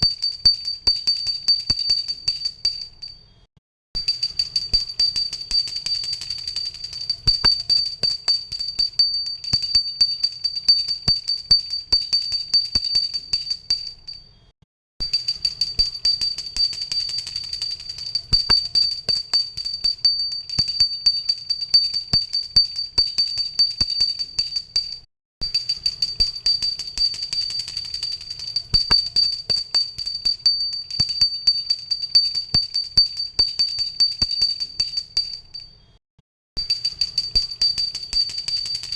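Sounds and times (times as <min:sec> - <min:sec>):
hand bell ringing: 0:00.0 - 0:03.2, 0:04.0 - 0:14.2, 0:15.0 - 0:35.8, 0:36.6 - 0:38.9.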